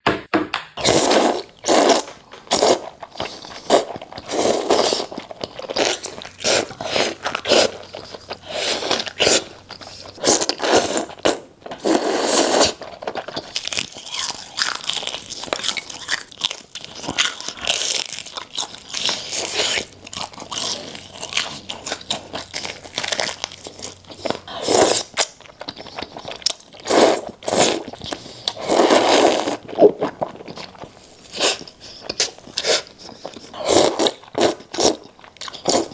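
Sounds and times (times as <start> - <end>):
crunching bites and chewing: 0.8 - 35.9.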